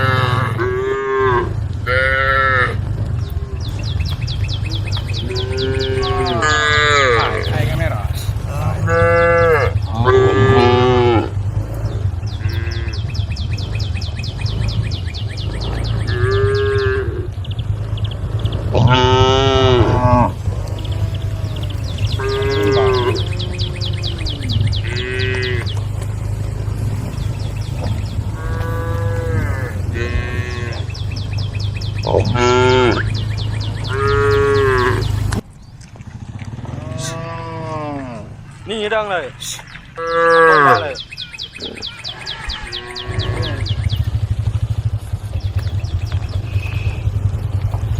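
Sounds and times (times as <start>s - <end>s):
cow mooing: 0.0s - 17.5s, 18.6s - 31.4s, 32.0s - 35.4s, 36.6s - 38.9s, 39.9s - 44.4s
bird chirping rapidly: 3.0s - 10.8s, 11.4s - 35.8s, 38.4s - 47.9s.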